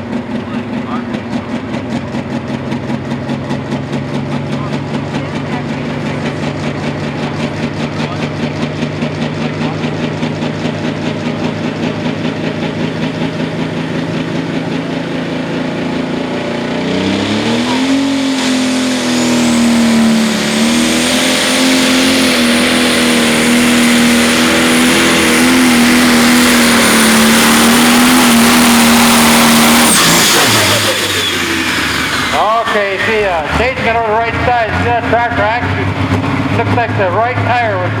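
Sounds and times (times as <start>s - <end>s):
diesel tractor engine revving: 0.0s - 38.0s
turbo whine: 0.0s - 38.0s.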